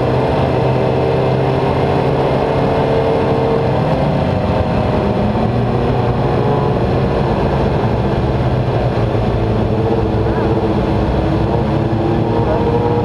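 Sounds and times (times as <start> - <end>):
motorcycle engine at low revs: 0.0 - 13.0
wind and road noise: 0.0 - 13.0.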